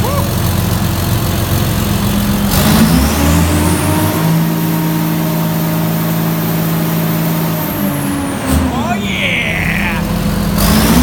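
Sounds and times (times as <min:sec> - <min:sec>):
tractor diesel engine revving: 0:00.0 - 0:11.0.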